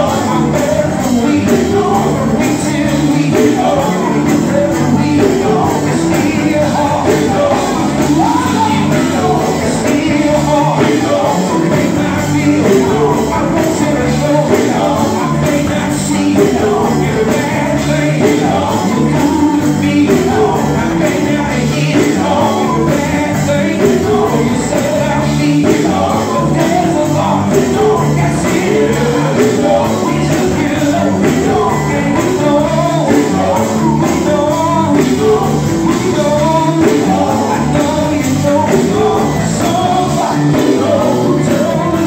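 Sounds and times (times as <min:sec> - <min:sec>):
electric guitar: 0:00.0 - 0:42.0
men singing into microphones: 0:00.0 - 0:42.0.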